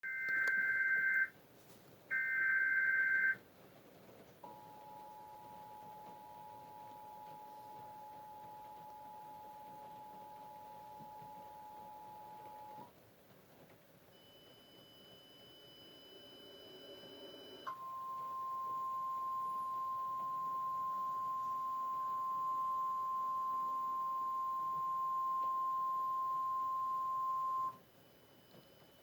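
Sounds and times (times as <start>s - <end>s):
faint high whine: 4.4s - 12.9s, 14.1s - 29.0s
steady high warning tone: 4.4s - 12.9s, 14.2s - 29.0s.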